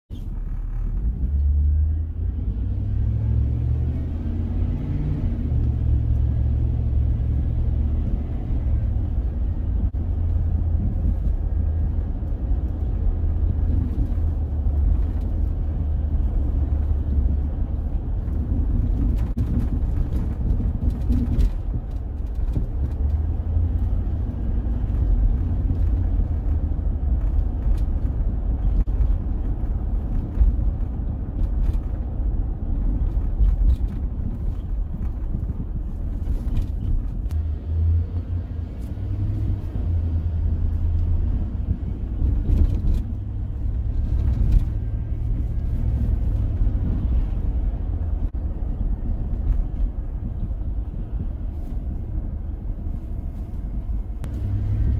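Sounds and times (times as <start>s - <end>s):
car engine and road rumble: 0.1s - 54.9s.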